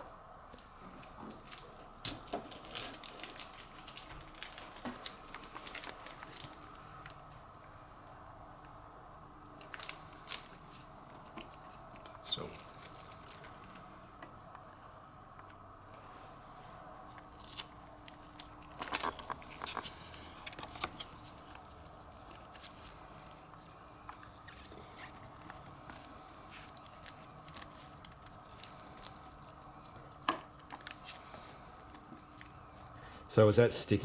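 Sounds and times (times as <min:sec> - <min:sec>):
low room hum: 0:00.0 - 0:34.0
light clicks and crackles from handling: 0:00.5 - 0:07.5, 0:09.6 - 0:14.7, 0:17.0 - 0:33.0.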